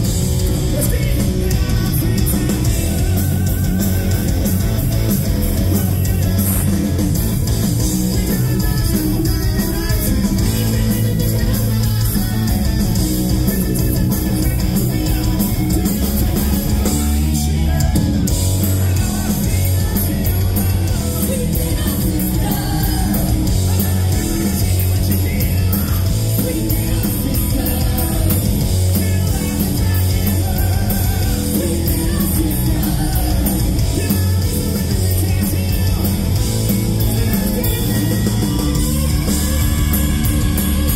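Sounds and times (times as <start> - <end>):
bass guitar: 0.0 - 40.9
distorted electric guitar: 0.0 - 40.9
drums: 0.0 - 40.9
man singing: 0.0 - 40.9.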